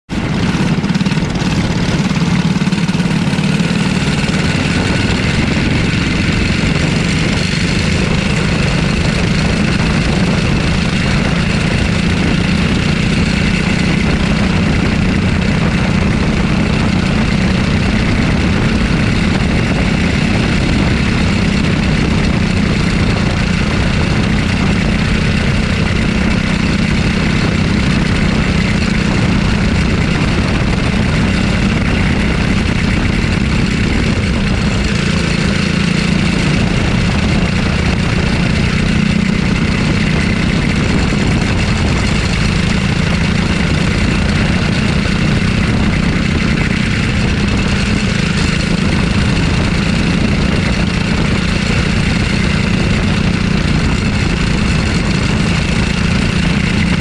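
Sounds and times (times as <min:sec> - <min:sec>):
kart engine running hard: 0:00.1 - 0:57.0.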